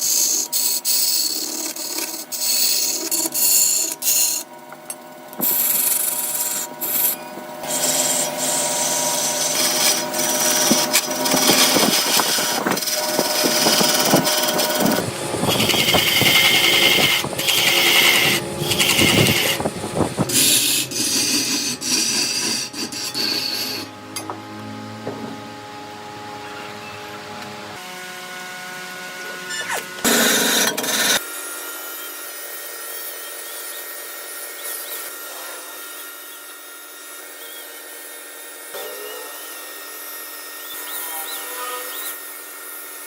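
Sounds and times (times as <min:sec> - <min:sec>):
power tool cutting wood: 0:00.0 - 0:43.0
steady motor hum: 0:00.0 - 0:43.0.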